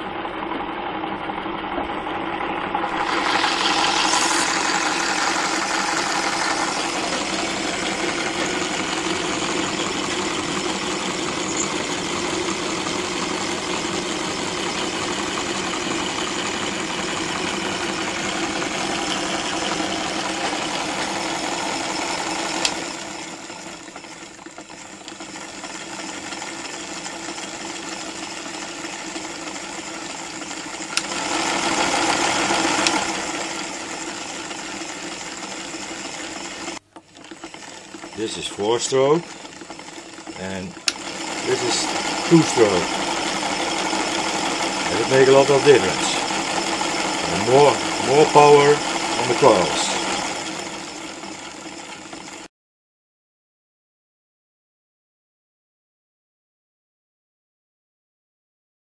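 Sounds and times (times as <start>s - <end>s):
model engine mechanical clatter: 2.9s - 52.5s.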